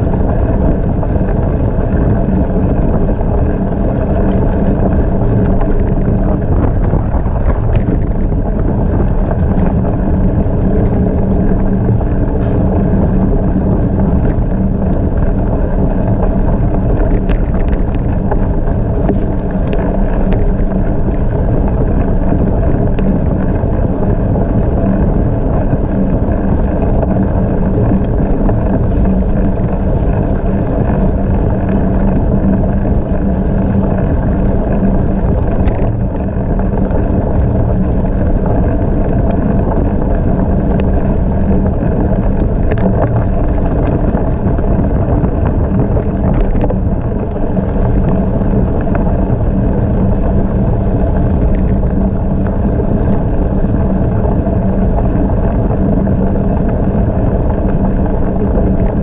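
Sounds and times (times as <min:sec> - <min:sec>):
bicycle tyres rumbling: 0:00.0 - 0:59.0
wind on microphone: 0:00.0 - 0:59.0.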